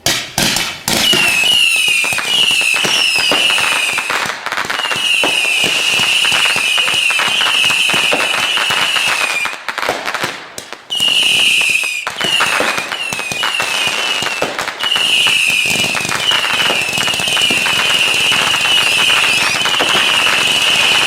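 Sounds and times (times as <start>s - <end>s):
fireworks crackling and popping: 0.0s - 21.0s
whistling fireworks: 0.0s - 21.0s.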